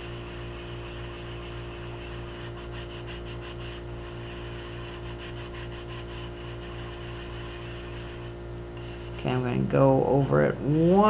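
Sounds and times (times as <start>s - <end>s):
steady low hum: 0.0s - 11.0s
wet pad scrubbing porcelain: 0.0s - 11.0s.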